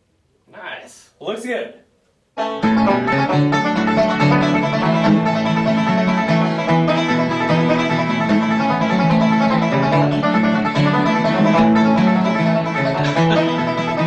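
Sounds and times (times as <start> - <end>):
bluegrass music with banjo: 2.4 - 14.0
guitar: 2.4 - 14.0.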